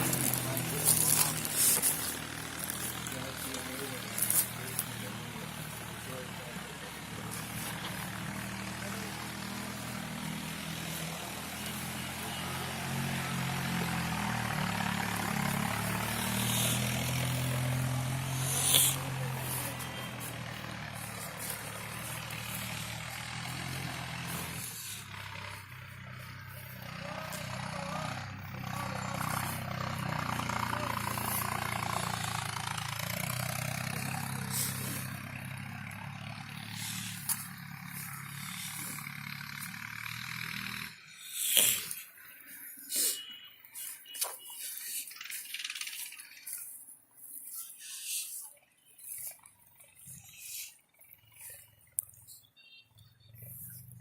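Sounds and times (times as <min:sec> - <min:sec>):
engine running: 0:00.0 - 0:44.2.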